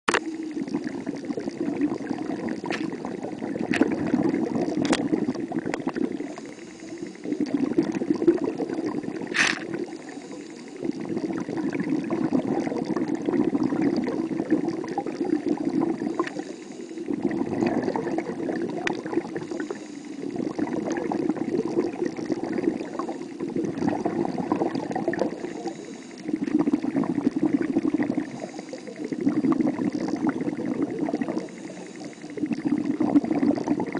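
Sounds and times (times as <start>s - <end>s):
underwater gurgling and bubbling: 0.1s - 33.9s.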